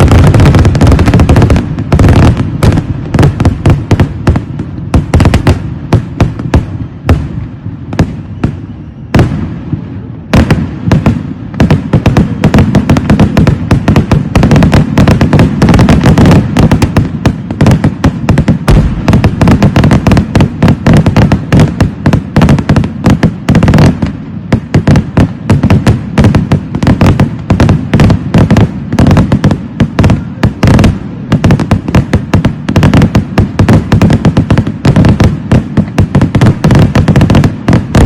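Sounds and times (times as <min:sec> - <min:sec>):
fireworks explosions: 0:00.0 - 0:38.0.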